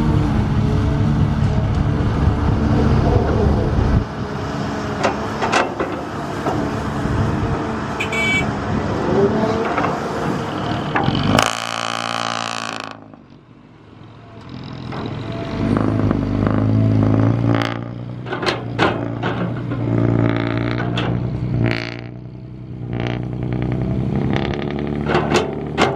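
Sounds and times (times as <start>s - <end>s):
heavy machinery engines under load: 0.0s - 25.9s.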